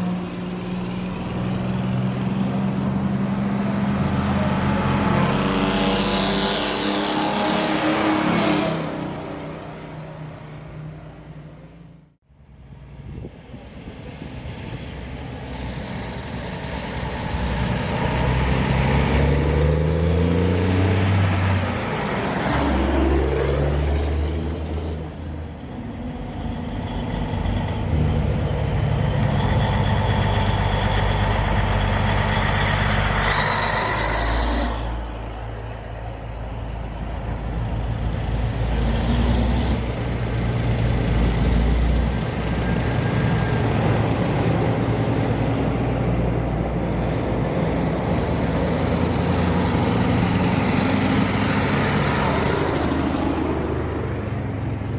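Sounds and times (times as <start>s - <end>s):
truck engine accelerating: 0.0s - 54.9s.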